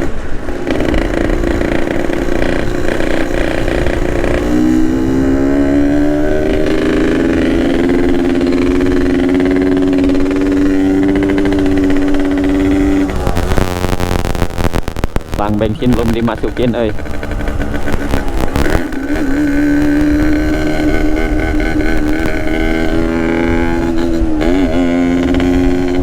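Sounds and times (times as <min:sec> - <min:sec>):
two-stroke motorcycle accelerating: 0:00.0 - 0:26.0.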